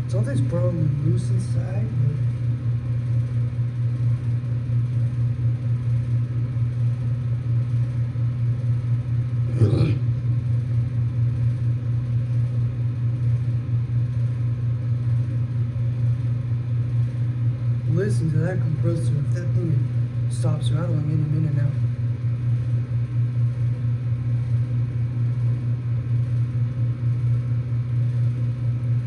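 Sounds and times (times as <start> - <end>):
heat pump humming with rattle: 0.0 - 29.0.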